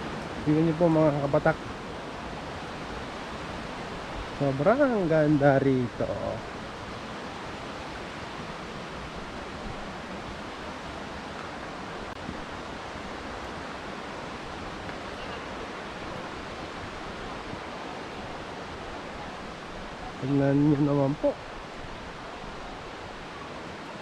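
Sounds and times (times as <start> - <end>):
running water rushing: 0.0 - 24.0.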